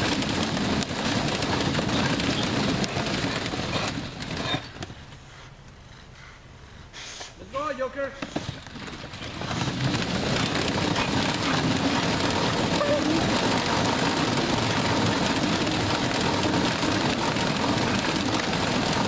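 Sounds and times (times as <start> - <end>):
treadmill running: 0.0 - 5.3, 8.2 - 19.0.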